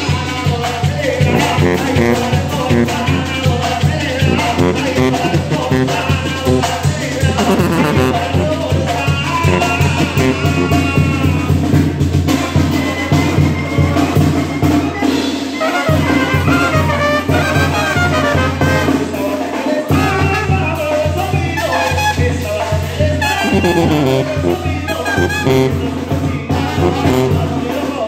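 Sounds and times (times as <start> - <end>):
brass band playing dance tune: 0.0 - 28.0.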